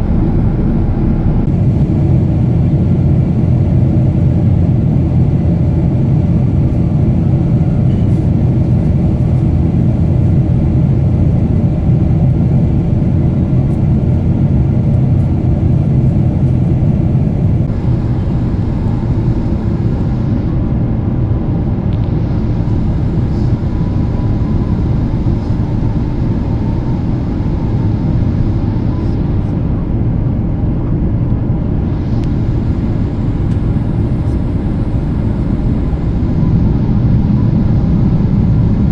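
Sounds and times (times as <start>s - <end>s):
jet engine and airflow rumble: 0.0s - 38.9s.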